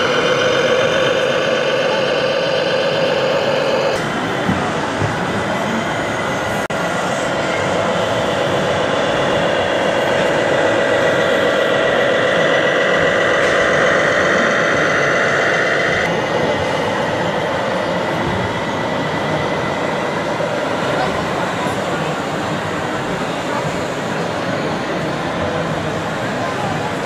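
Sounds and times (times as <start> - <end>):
busy exhibition hall noise: 0.0 - 27.0
diesel engine sound module: 0.0 - 27.0.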